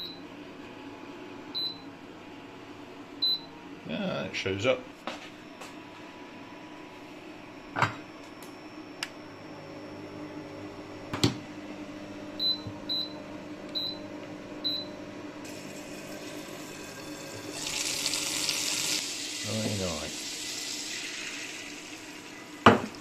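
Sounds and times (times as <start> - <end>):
low hum of hob: 0.0 - 23.0.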